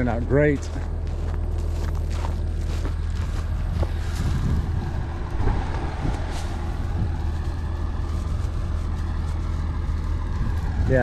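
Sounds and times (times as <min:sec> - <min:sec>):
dry hay rustling: 0:00.0 - 0:11.0
tractor engine running: 0:00.0 - 0:11.0.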